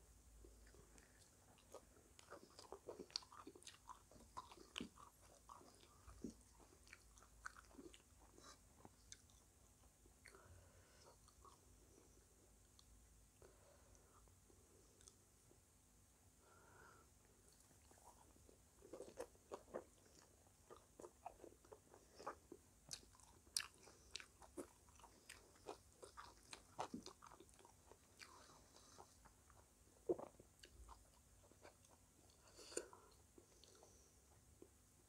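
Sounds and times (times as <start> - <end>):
crunchy pastry chewing: 0.4 - 12.0, 17.5 - 34.0.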